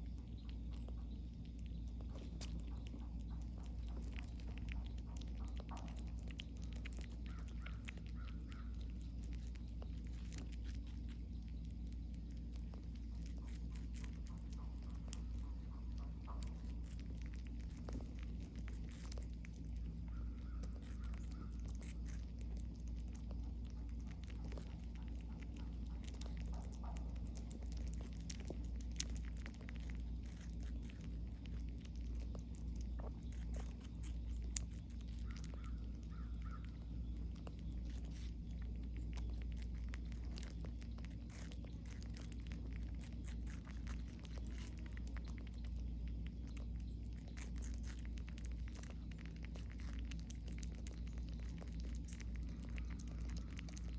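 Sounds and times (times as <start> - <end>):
low hum: 0.0 - 53.9
squirrels chewing watermelon: 0.0 - 53.9.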